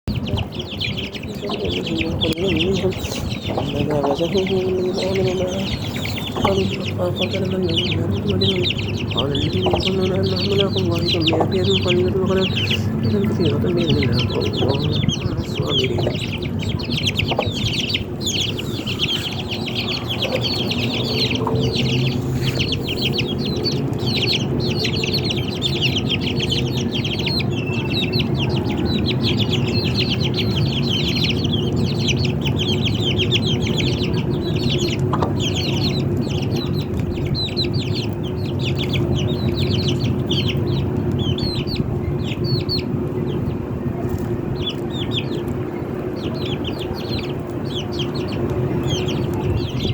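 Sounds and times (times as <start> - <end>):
high-pitched chirping: 0.1 - 42.9
chickens clucking: 0.1 - 49.9.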